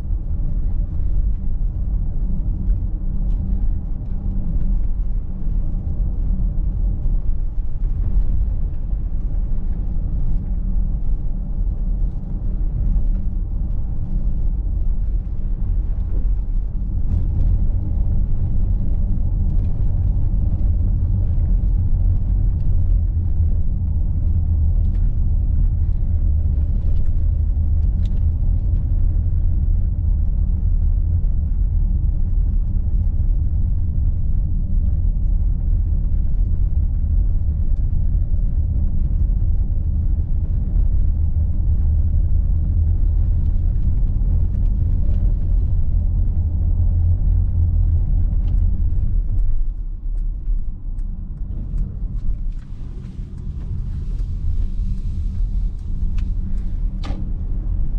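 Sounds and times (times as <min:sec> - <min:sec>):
car cabin road rumble: 0:00.0 - 0:57.9.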